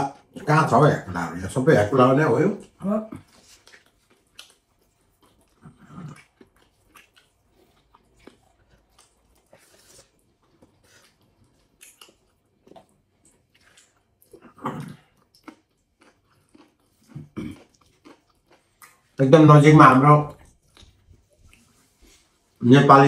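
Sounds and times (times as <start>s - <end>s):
people chewing: 0.0s - 23.0s.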